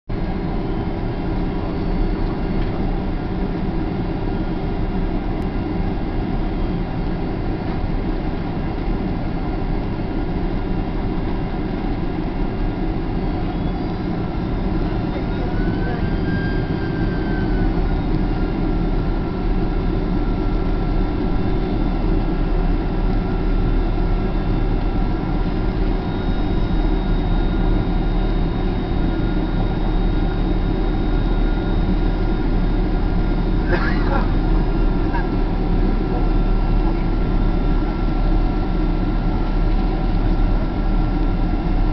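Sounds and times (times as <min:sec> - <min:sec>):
engine whine: 0:00.1 - 0:41.9
jet cabin engine rumble: 0:00.1 - 0:41.9.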